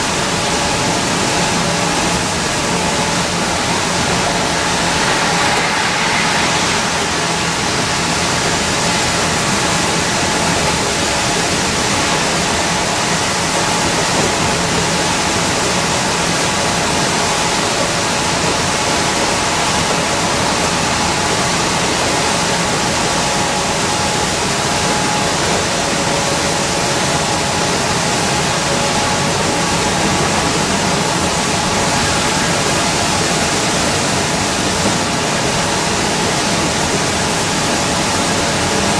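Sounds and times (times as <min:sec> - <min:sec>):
tyres hissing through water: 0:00.0 - 0:38.9.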